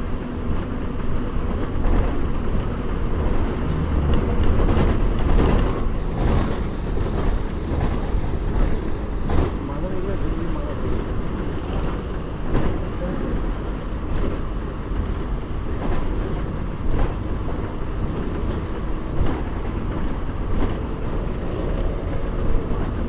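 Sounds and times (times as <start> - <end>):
bus engine and road rumble: 0.0 - 23.0
sharp knocks and rattles: 0.6 - 23.0.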